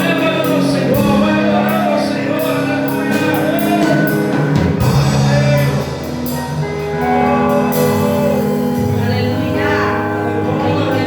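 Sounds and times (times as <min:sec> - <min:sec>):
held keyboard chords: 0:00.0 - 0:11.0
person singing: 0:00.0 - 0:11.0.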